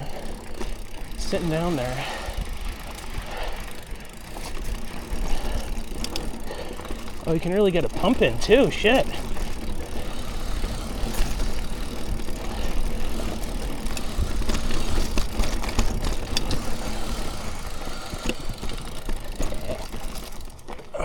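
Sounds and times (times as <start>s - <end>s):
bike chain and frame rattling: 0.0s - 21.0s
bike tyres rumbling on dirt: 0.0s - 21.0s.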